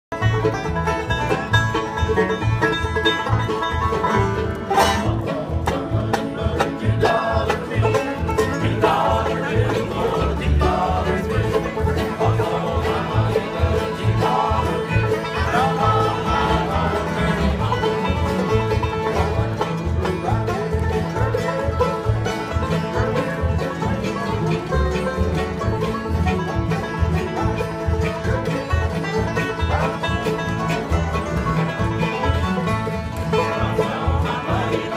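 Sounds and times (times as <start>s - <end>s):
banjo picking: 0.1s - 34.9s
strummed acoustic guitars: 0.1s - 34.9s
upright bass playing: 0.1s - 34.9s.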